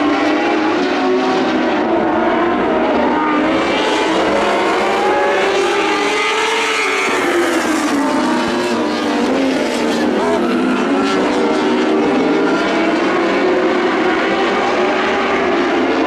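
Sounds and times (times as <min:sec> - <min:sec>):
racing car engines: 0:00.0 - 0:16.0.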